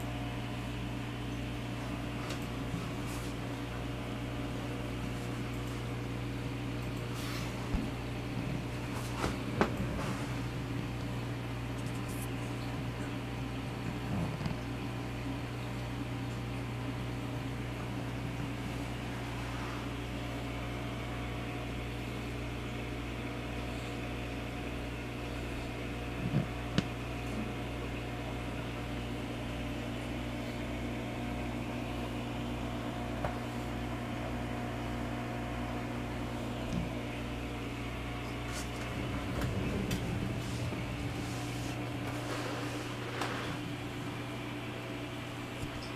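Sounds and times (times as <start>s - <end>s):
aquarium equipment hum: 0.0s - 45.9s.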